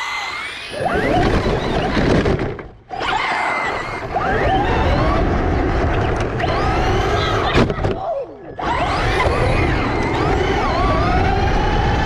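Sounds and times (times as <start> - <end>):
rc car motor whining: 0.0 - 8.0, 8.6 - 12.0.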